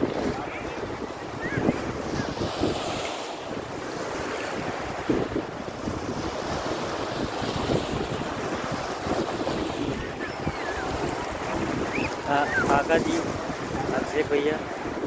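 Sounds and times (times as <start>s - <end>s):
small waves washing: 0.0s - 15.0s
wind buffeting microphone: 0.0s - 15.0s.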